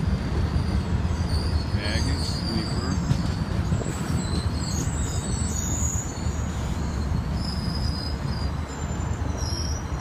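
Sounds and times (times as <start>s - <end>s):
train wheels rumbling on rail: 0.0s - 10.0s
faint wheel squeals: 0.2s - 10.0s.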